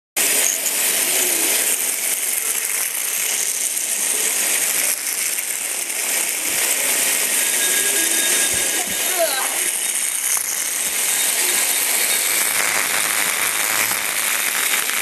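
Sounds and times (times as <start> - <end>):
toy robots buzzing and rattling: 0.2 - 15.0.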